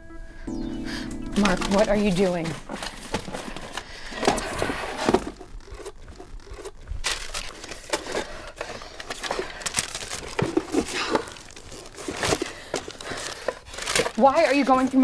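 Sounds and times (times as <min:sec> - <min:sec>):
rustling and crinkling papers: 0:01.4 - 0:15.0.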